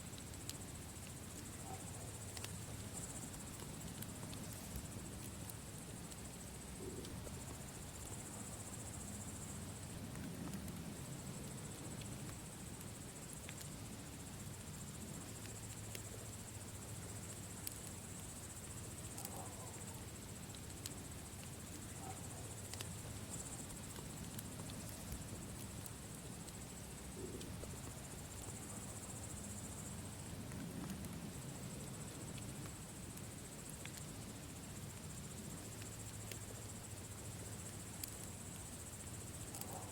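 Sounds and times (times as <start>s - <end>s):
crickets chirring: 0.0s - 39.9s
campfire crackling and popping: 0.1s - 1.6s, 2.2s - 8.3s, 9.2s - 39.9s.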